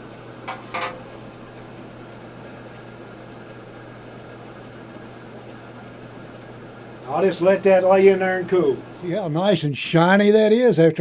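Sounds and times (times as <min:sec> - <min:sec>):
mechanical hum with hiss: 0:00.0 - 0:11.0.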